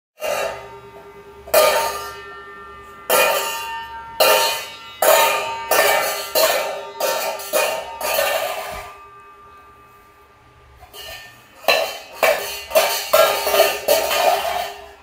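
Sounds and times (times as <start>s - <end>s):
steel pots clanging together: 0.2s - 15.0s.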